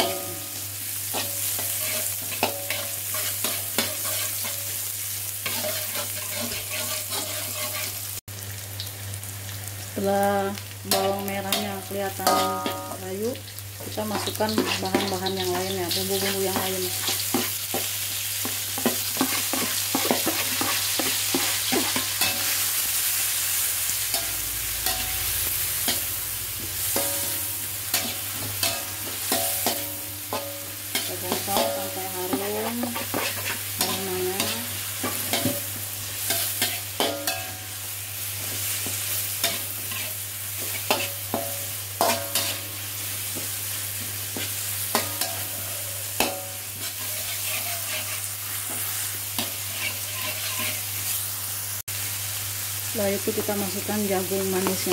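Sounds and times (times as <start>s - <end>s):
shallots sizzling in oil: 0.0s - 54.9s
spatula scraping a wok: 0.9s - 8.2s, 14.2s - 51.3s.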